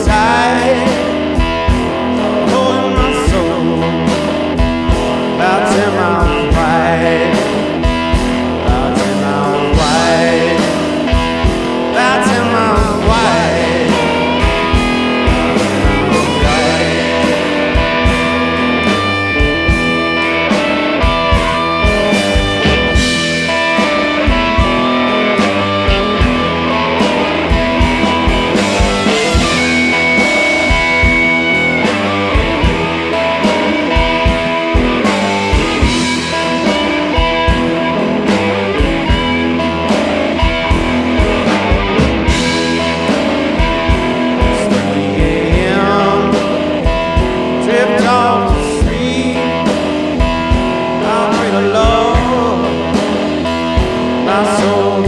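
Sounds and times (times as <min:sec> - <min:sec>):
electric guitar: 0:00.0 - 0:55.0
person singing: 0:00.0 - 0:55.0
steady drum beat: 0:00.0 - 0:55.0.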